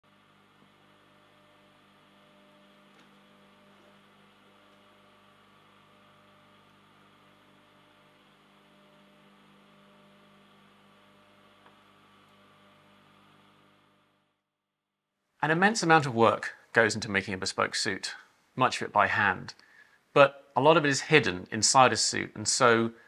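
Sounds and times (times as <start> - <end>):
faint steady hum: 0.1 - 14.4, 15.4 - 23.0.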